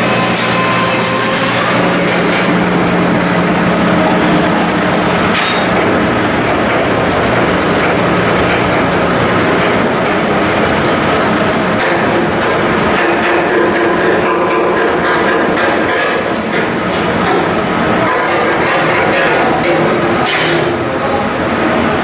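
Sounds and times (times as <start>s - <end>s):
industrial machinery hum: 0.0s - 22.0s.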